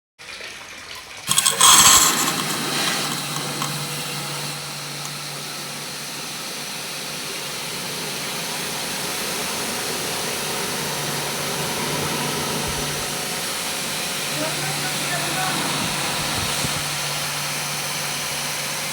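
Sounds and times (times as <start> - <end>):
motor humming and hissing: 1.3 - 18.9.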